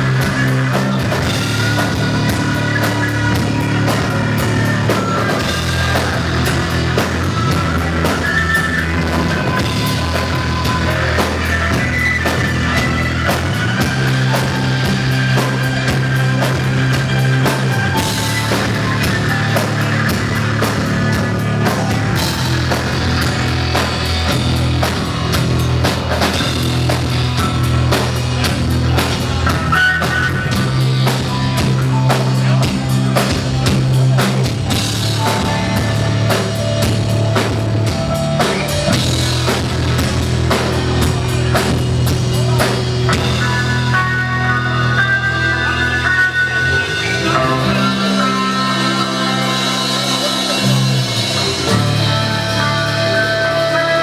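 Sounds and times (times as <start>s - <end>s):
drum kit beating: 0.0s - 54.0s
held bass notes: 0.0s - 54.0s
rock band playing: 0.0s - 54.0s.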